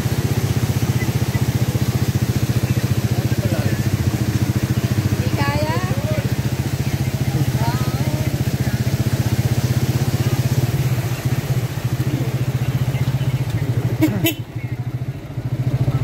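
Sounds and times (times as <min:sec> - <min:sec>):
motorcycle engine puttering: 0:00.0 - 0:16.0.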